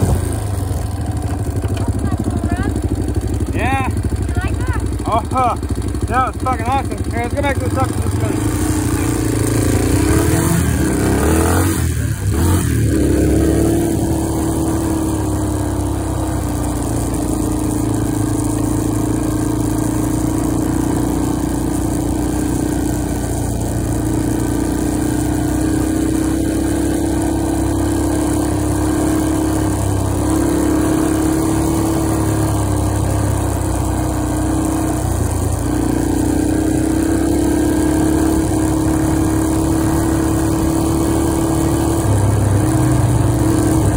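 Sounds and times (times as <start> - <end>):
off-road vehicle engine running: 0.0 - 43.9.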